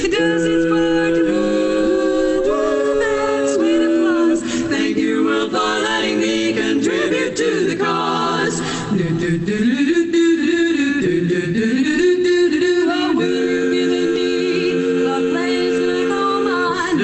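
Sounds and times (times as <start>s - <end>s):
women singing a cappella harmony: 0.0s - 17.0s.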